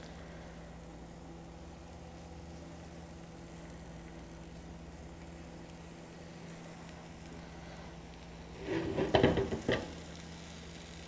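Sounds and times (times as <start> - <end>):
meat sizzling in a skillet: 0.9 - 11.0.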